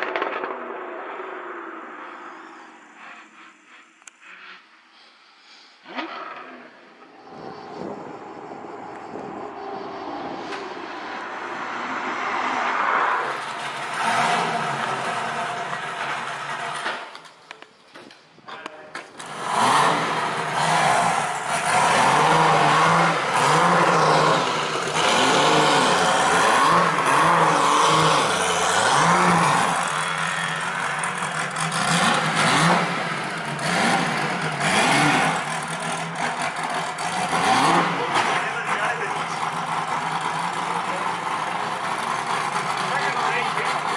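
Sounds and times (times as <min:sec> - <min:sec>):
racing engine revving: 0:06.2 - 0:17.2, 0:19.1 - 0:43.9.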